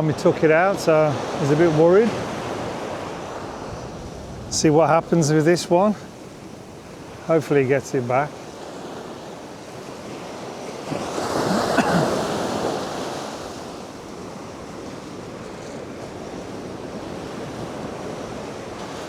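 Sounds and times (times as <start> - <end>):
ocean wave breaking: 0.0 - 19.0
surf hiss: 0.0 - 19.0.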